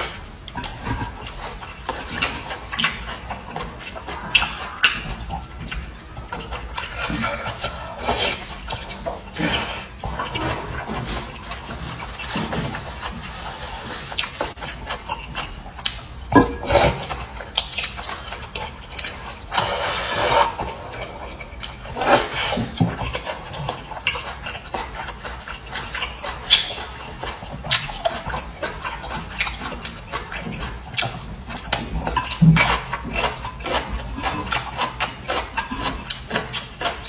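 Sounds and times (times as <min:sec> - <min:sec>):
chewing with mouth clicks: 0:00.0 - 0:37.0.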